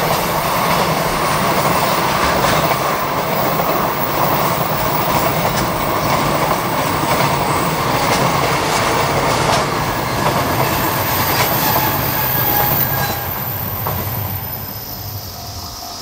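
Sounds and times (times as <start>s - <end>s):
steel wheels clicking over rail joints: 0.0s - 13.2s
freight train rolling past: 0.0s - 16.0s.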